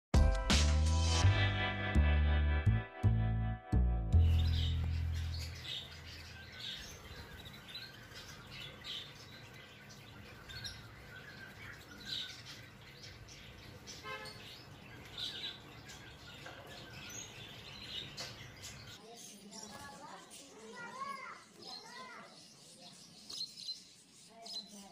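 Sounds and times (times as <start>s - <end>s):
budgerigars chirping: 4.2s - 24.9s.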